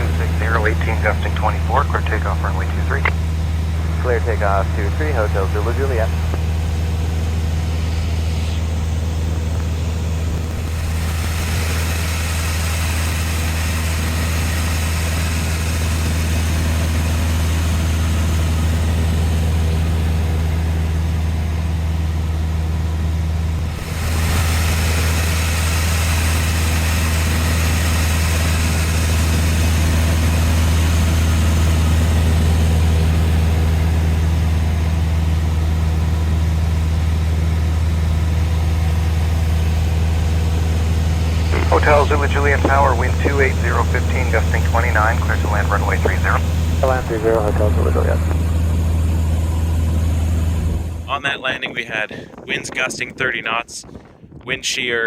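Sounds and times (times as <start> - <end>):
aircraft engine and propeller hum: 0.0 - 54.5.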